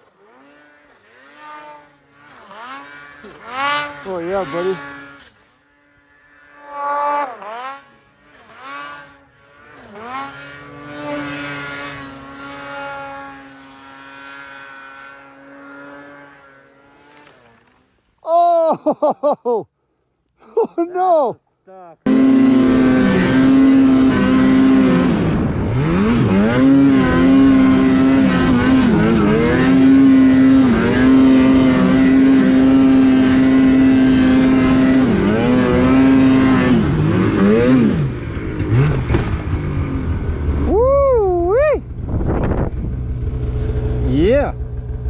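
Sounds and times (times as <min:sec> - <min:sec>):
snowmobile engine at high revs: 0:00.0 - 0:19.6, 0:22.0 - 0:45.0.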